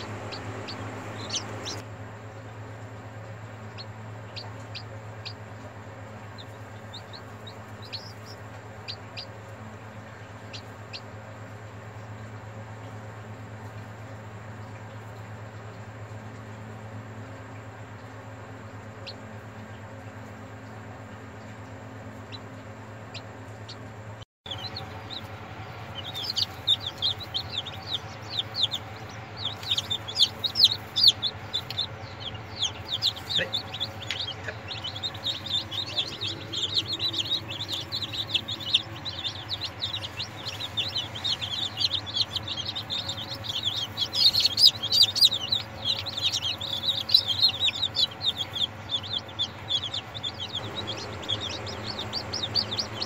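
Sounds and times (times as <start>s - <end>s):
chicks peeping: 0.0s - 53.0s
steady low hum: 0.0s - 53.0s.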